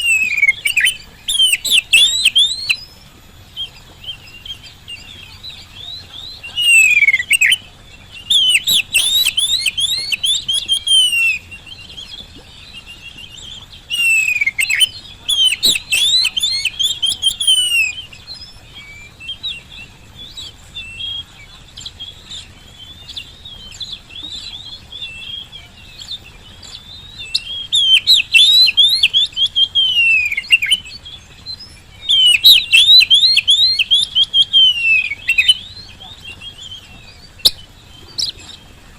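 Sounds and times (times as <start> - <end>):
bird singing varied whistles: 0.0 - 38.8
quiet bird twittering: 0.0 - 38.9.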